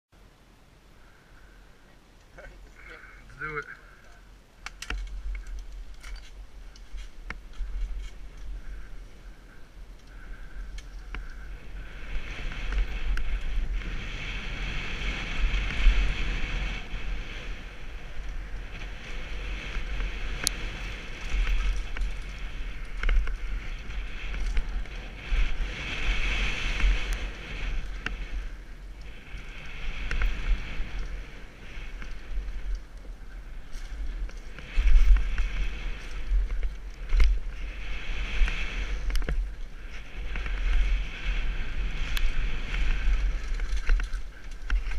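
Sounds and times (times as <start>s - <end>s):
wind buffeting microphone: 1.0s - 44.9s
bike clacking over bumps: 4.6s - 44.9s.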